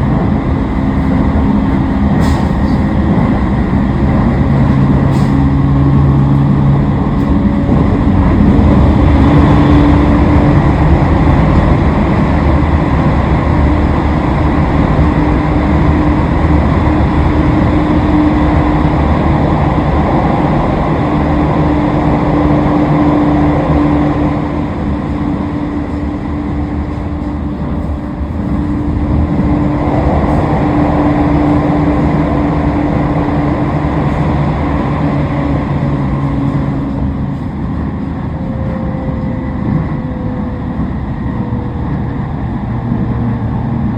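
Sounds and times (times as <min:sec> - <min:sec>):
wheel on rail rumble: 0:00.0 - 0:43.9.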